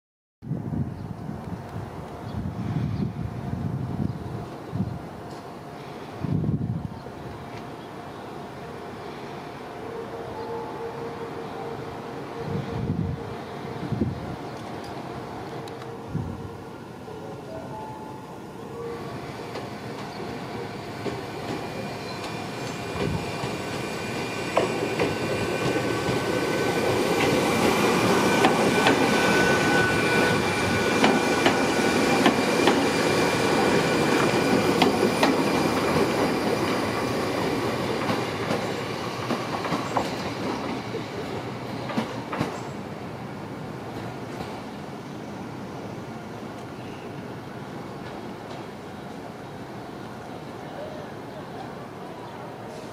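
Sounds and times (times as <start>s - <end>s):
electric train passing: 0.6s - 52.9s.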